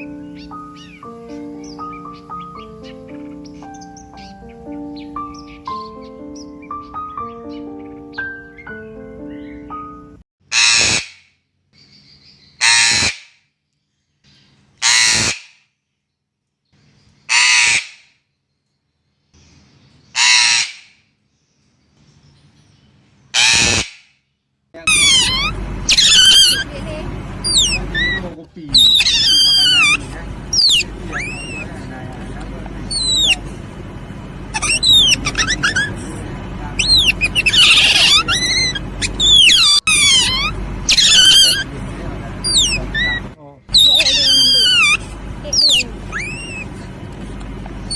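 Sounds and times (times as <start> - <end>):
bird giving harsh calls: 0.0 - 11.3, 12.4 - 13.4, 14.8 - 15.6, 17.3 - 18.1, 20.1 - 21.0, 23.3 - 24.2, 24.8 - 47.9.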